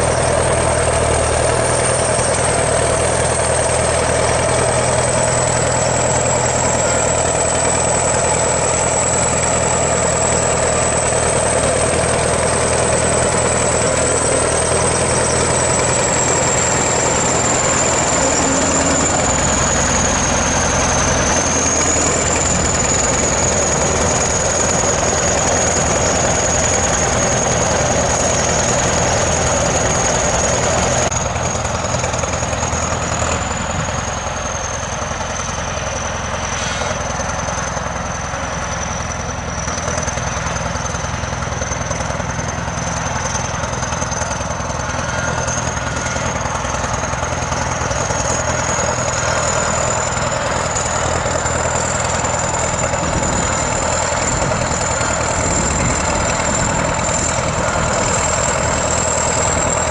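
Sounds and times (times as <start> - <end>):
high whine: 0.0 - 38.5, 43.0 - 59.9
bulldozer diesel engine running: 0.0 - 59.9.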